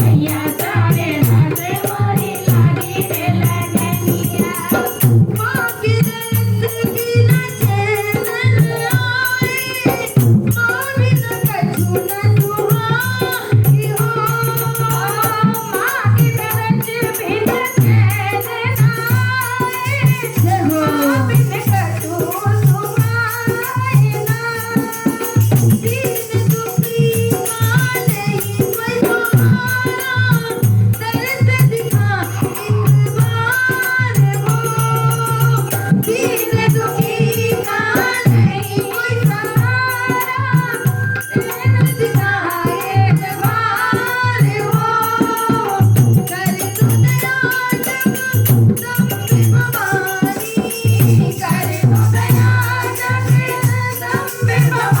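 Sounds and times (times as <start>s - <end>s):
hand drum fast rhythm: 0.0s - 55.0s
person singing devotional melody: 0.0s - 55.0s
shaken rattle percussion: 0.0s - 55.0s.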